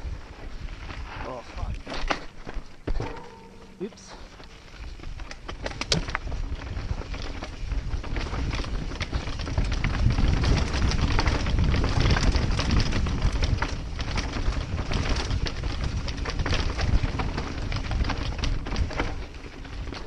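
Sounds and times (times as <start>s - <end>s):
wind rumble on microphone: 0.0s - 2.2s, 4.3s - 20.0s
bike rattling: 0.0s - 20.0s.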